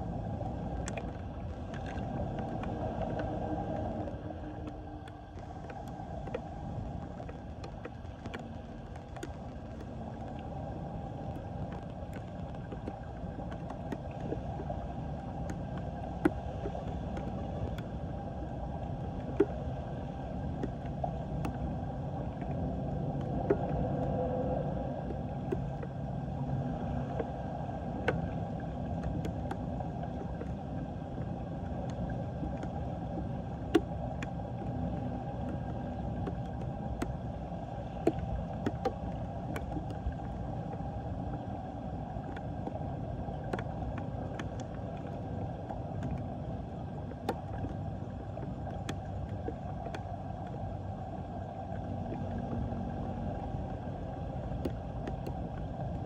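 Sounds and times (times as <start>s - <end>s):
raindrops ticking on water: 0.0s - 56.0s.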